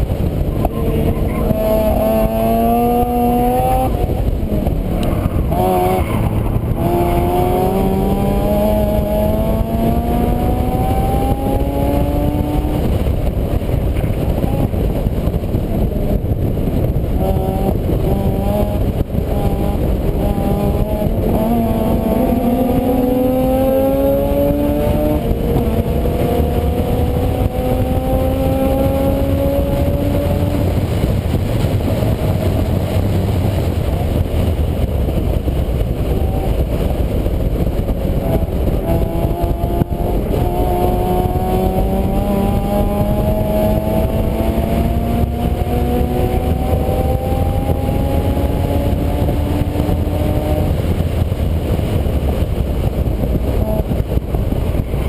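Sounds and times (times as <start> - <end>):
vehicle engine accelerating: 0.0 - 55.0
wind and road noise: 0.0 - 55.0.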